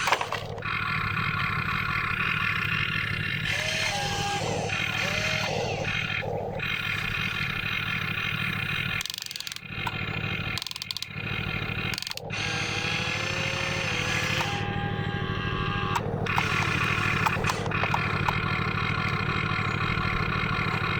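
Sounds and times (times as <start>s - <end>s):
small electric motors whining: 0.0s - 20.9s
steady engine-like drone: 0.0s - 20.9s.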